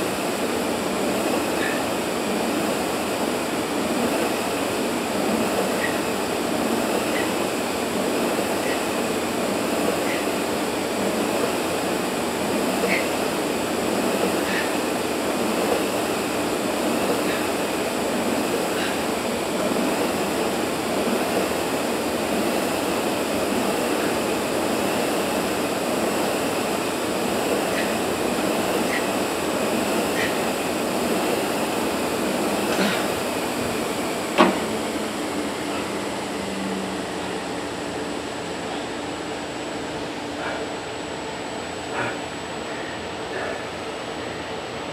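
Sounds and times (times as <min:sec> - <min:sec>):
air conditioning noise: 0:00.0 - 0:44.9.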